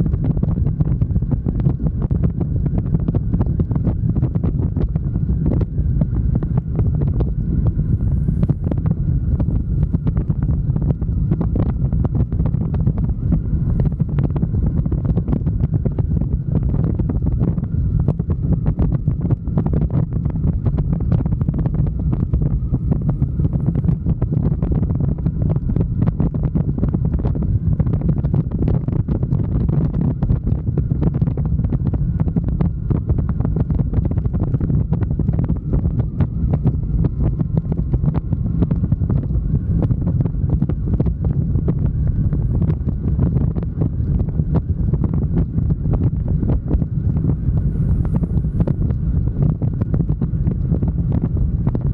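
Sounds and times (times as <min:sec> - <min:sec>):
faint steady whine: 0:00.0 - 0:51.9
wind buffeting microphone: 0:00.0 - 0:51.9.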